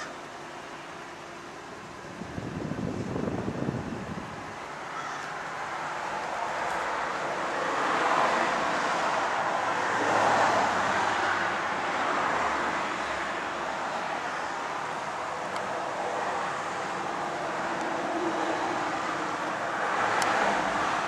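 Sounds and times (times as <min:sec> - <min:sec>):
tyres and air rushing: 0:01.7 - 0:21.0.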